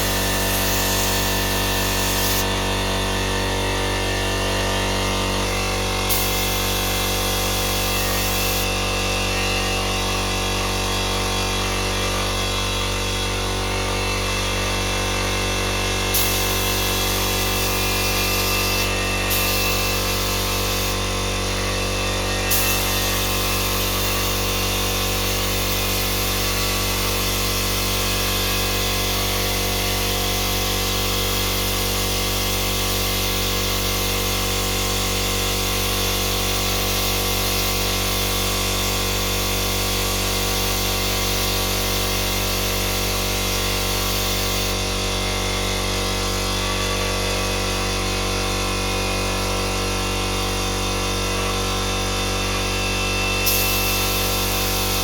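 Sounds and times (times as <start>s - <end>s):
power tool whirring: 0.0s - 36.7s, 37.3s - 55.0s.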